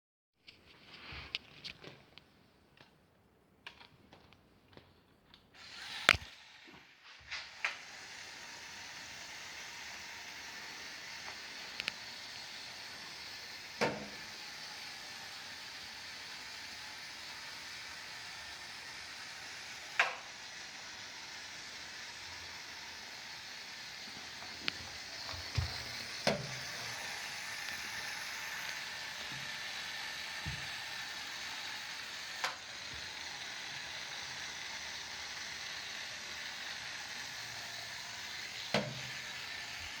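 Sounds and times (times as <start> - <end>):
robot vacuum motor whirring: 5.6 - 40.0.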